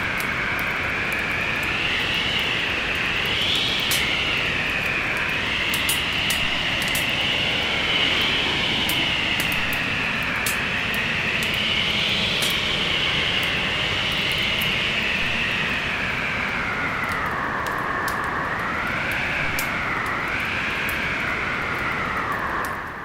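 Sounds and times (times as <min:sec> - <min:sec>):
storm wind howling: 0:00.0 - 0:23.0.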